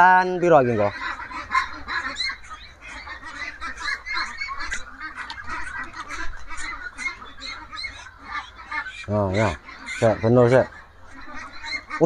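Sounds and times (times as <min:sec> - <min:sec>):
ducklings calling: 0:00.0 - 0:12.0.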